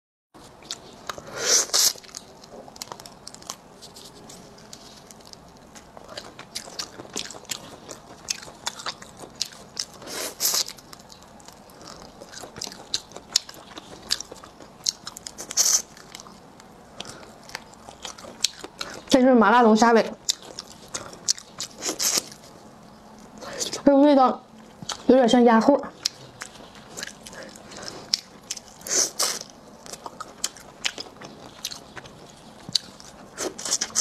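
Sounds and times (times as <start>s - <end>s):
crunchy chewing: 0.4s - 19.2s, 20.2s - 23.8s, 24.6s - 25.1s, 25.8s - 34.0s.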